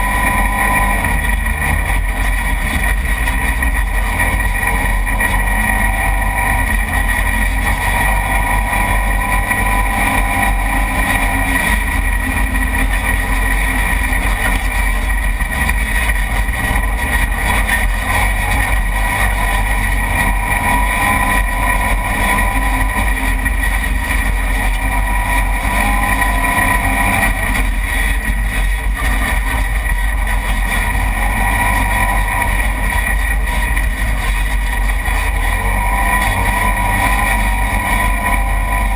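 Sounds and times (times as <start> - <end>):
rumble and rushing noise: 0.0 - 38.9
utility vehicle engine under load: 0.0 - 38.9.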